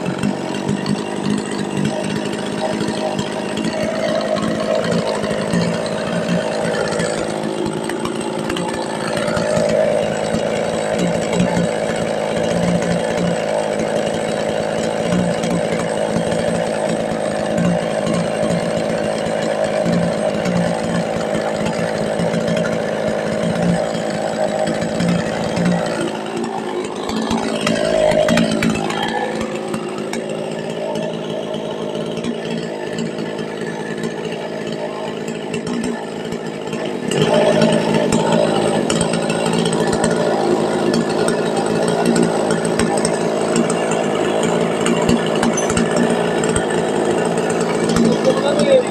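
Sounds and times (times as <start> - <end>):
chainsaw engine running: 0.0 - 48.9.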